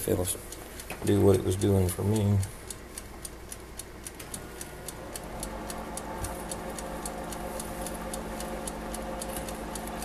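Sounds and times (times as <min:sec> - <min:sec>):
steady electrical buzz: 0:00.0 - 0:10.0
wind-up timer ticking: 0:00.0 - 0:10.0.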